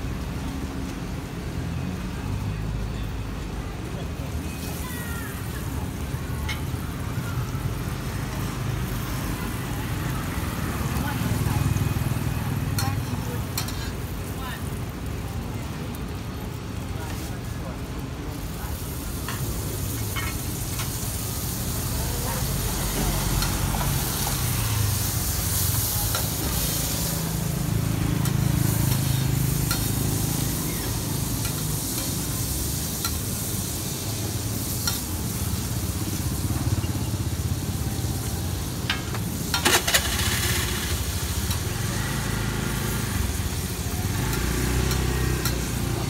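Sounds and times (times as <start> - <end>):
pancake sizzling on griddle: 3.8 - 46.0.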